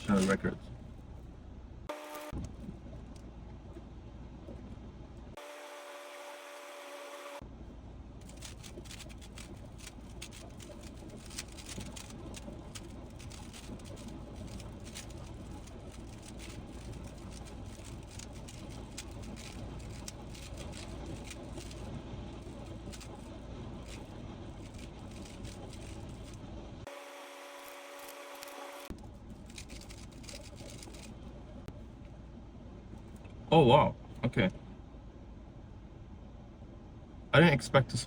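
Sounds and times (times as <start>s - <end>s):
constant low hum: 0.0s - 38.0s.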